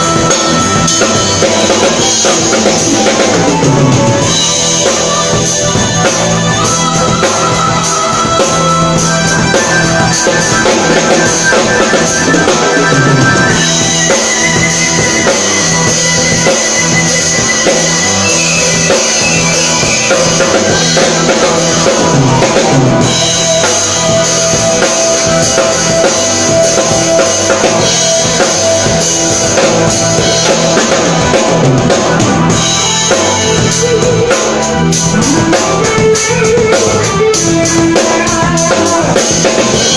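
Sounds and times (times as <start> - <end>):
long held pitched notes: 0.0 - 36.7
drum kit solo: 0.0 - 39.9.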